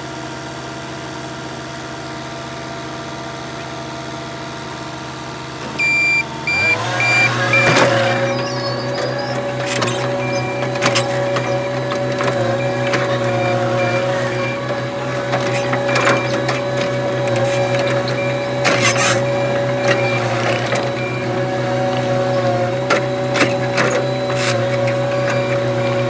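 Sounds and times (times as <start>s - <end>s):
track loader whining: 3.3s - 26.0s.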